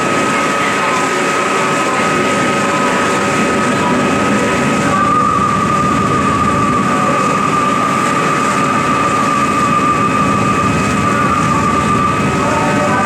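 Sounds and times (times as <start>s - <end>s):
boat engine drone: 0.0s - 13.0s
high-pitched whine: 0.0s - 13.0s.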